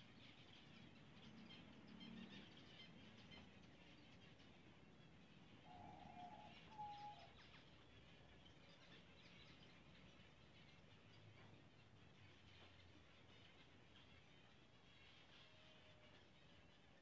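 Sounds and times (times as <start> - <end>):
finches chirping: 0.0 - 17.0.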